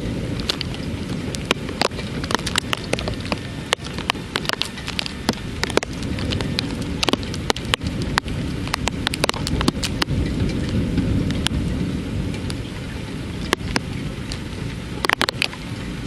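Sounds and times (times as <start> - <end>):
heavy rain drops striking: 0.0 - 16.0
thunder rumbling: 0.0 - 16.0.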